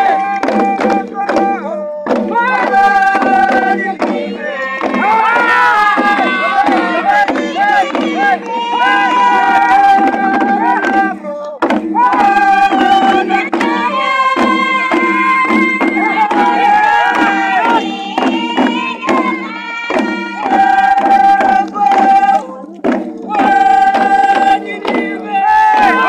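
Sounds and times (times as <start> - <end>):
wooden drums beating: 0.0 - 26.0
group chanting in unison: 2.1 - 22.7, 23.3 - 26.0.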